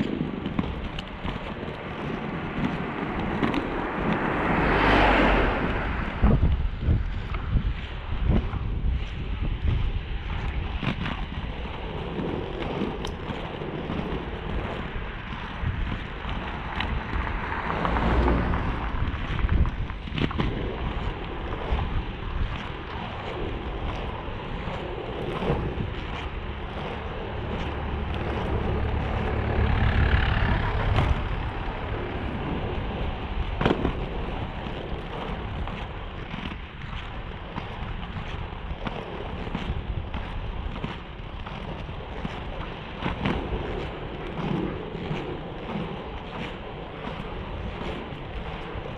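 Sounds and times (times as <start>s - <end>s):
skate wheels rolling on paving: 0.0s - 48.9s
wind buffeting microphone: 0.0s - 48.9s.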